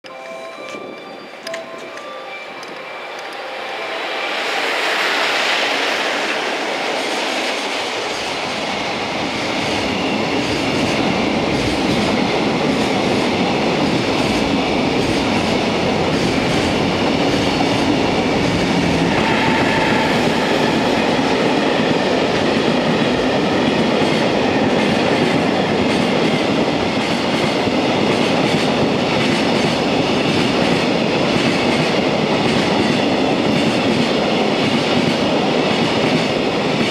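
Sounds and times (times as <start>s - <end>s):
electric locomotive passing: 0.0s - 36.9s
train wheels on rail: 0.1s - 36.9s.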